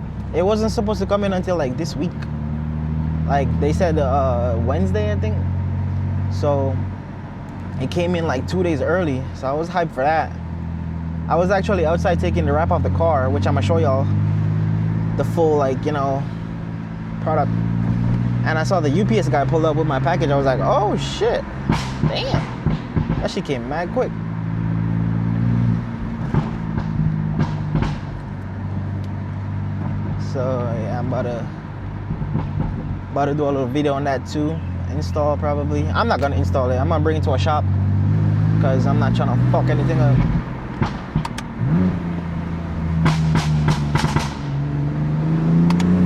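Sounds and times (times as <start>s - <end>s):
car exhaust drone while cruising: 0.0s - 46.0s.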